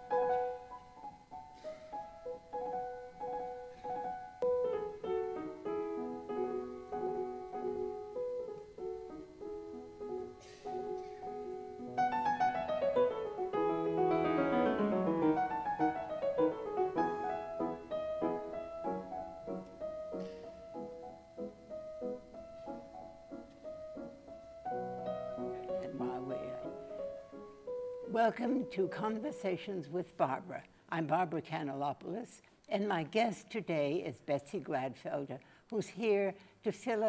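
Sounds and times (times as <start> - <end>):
gentle piano melody: 0.0 - 29.8.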